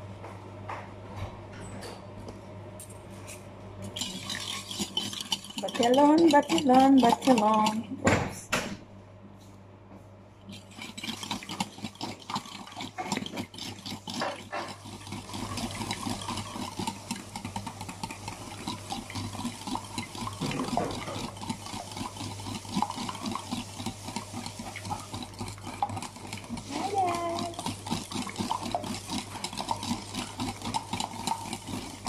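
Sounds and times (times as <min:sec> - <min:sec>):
whisking eggs in a bowl: 0:03.8 - 0:08.4, 0:10.4 - 0:32.0.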